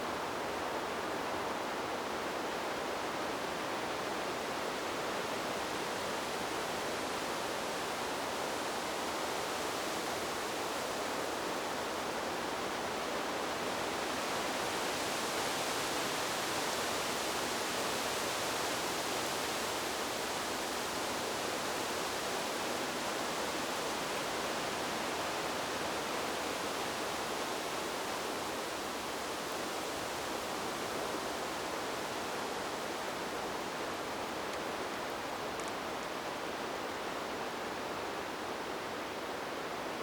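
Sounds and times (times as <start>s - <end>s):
wind in trees hissing: 0.0s - 40.0s.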